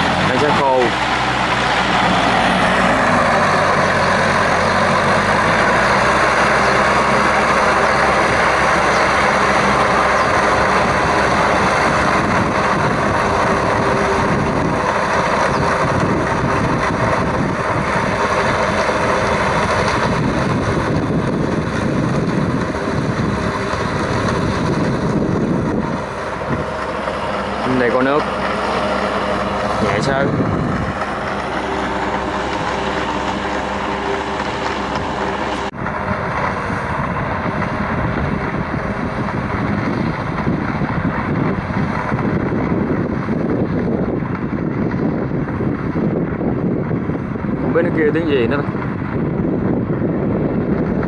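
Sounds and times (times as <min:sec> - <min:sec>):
tractor engine running under load: 0:00.0 - 0:51.0.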